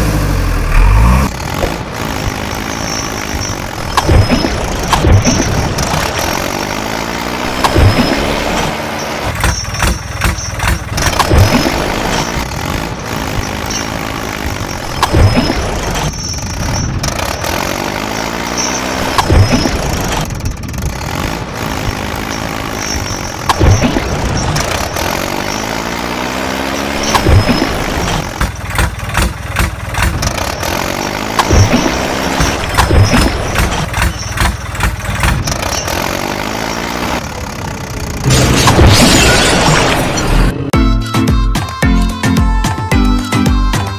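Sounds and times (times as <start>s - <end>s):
tractor engine starting and revving: 0.0s - 40.8s.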